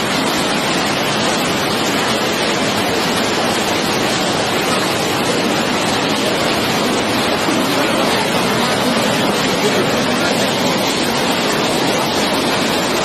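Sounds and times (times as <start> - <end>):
water pouring at a dam: 0.0 - 13.0.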